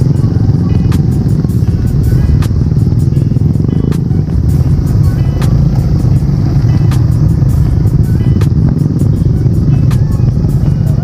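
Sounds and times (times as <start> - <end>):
background music with a beat: 0.0 - 11.0
motorcycle rumbling: 0.0 - 11.0.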